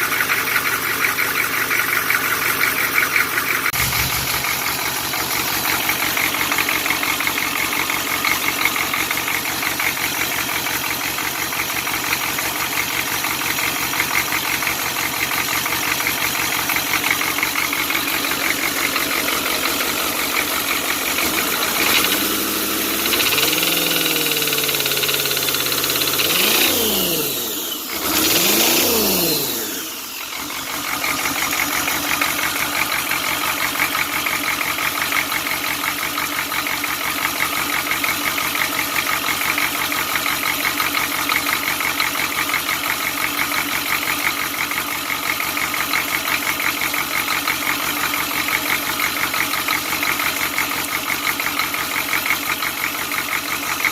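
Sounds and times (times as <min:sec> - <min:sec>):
diesel engine knocking: 0:00.0 - 0:53.9.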